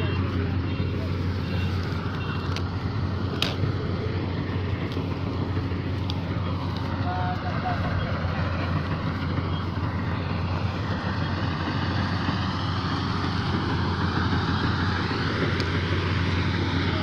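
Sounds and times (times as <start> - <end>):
combine harvester engine hum: 0.0 - 17.0
machinery rattling and whirring: 0.0 - 17.0.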